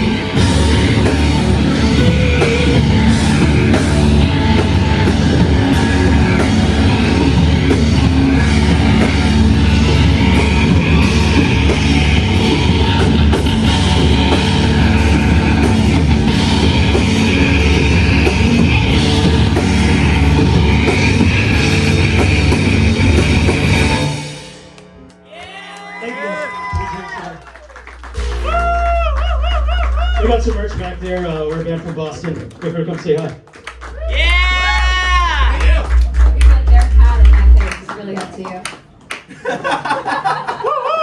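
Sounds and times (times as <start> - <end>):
rock band playing live: 0.0 - 25.3, 28.0 - 32.2, 33.7 - 38.2.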